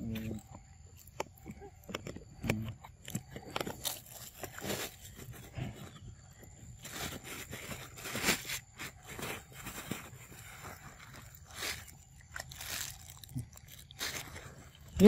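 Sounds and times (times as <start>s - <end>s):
soft rustles and crunches: 0.0s - 15.0s.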